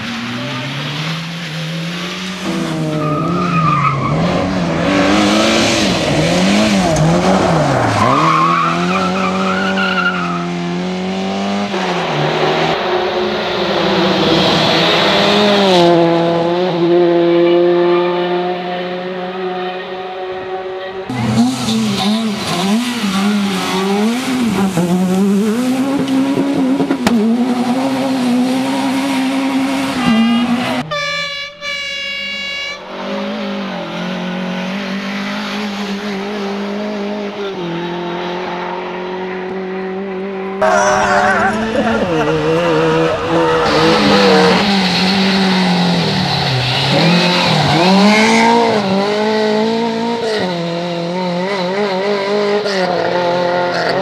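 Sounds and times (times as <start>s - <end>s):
race car engines revving: 0.0s - 31.0s, 32.4s - 54.0s.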